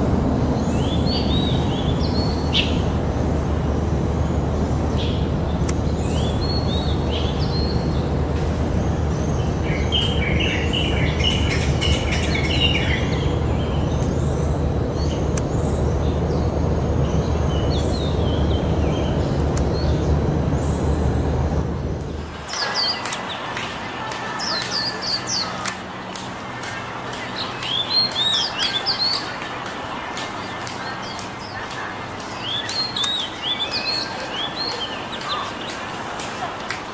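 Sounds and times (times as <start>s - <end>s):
steady low rumble: 0.0s - 33.2s
small birds chirping: 0.3s - 21.8s, 22.4s - 36.9s.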